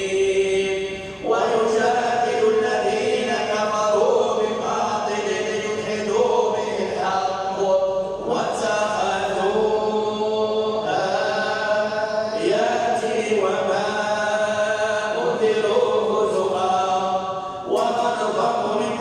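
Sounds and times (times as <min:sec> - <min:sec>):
person reciting in melodic chant: 0:00.0 - 0:19.0.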